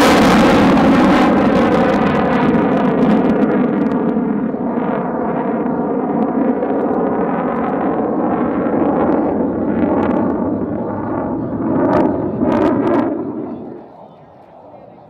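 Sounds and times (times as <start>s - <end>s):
jet flying past overhead: 0.0s - 15.0s.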